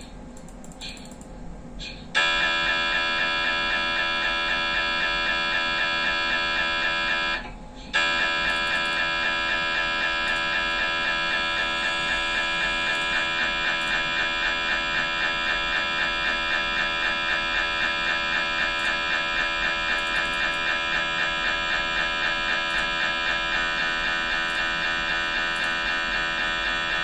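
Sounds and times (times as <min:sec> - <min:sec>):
mri scanner buzzing: 0:02.2 - 0:27.0.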